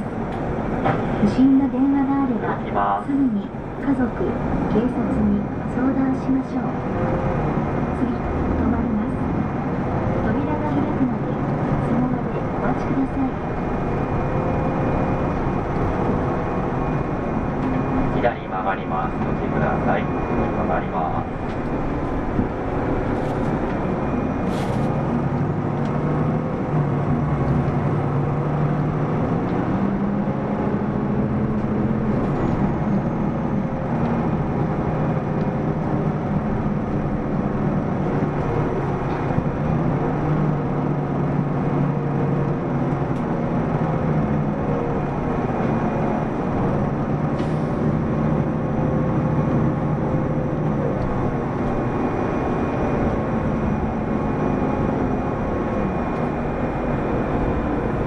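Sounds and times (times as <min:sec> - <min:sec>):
diesel bus engine: 0:00.0 - 0:58.0
road and drivetrain noise: 0:00.0 - 0:58.0.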